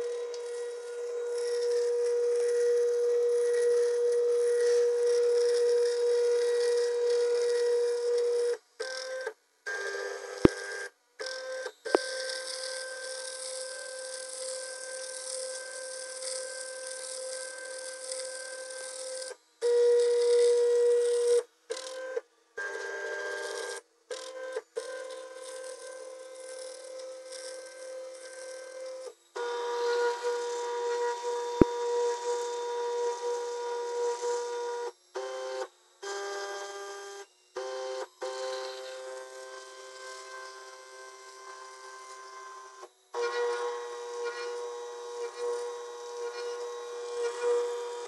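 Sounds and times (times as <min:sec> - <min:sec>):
milling machine whining and cutting: 0:00.0 - 0:48.0.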